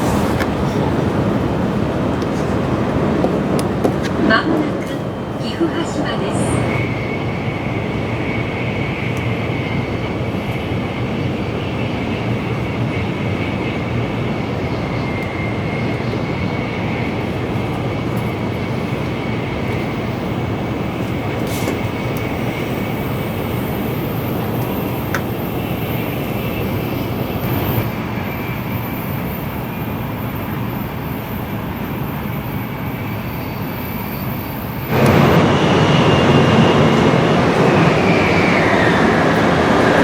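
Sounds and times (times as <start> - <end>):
train running noise: 0.0 - 40.0.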